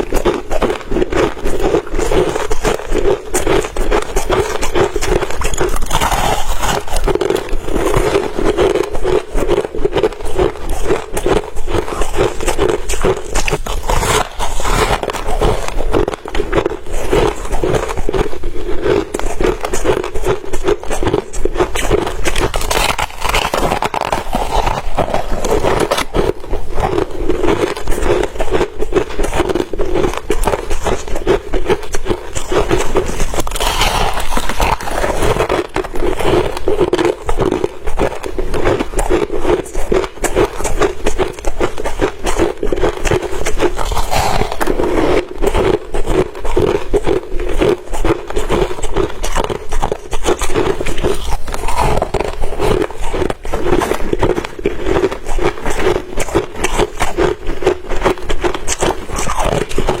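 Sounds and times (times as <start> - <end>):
ice crunching while chewed: 0.0 - 60.0.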